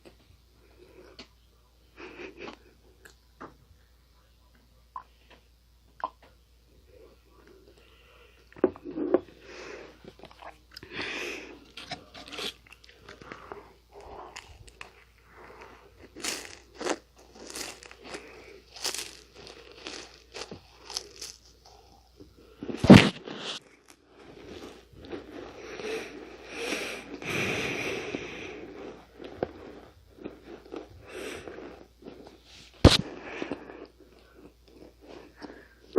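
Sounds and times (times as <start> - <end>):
crunchy cookie chewing: 7.0 - 35.9.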